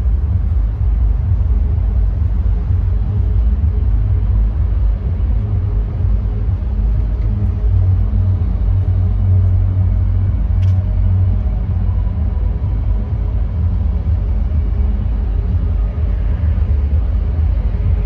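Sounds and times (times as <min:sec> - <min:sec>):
city street rumble: 0:00.0 - 0:18.0
faint low hum: 0:00.0 - 0:18.0.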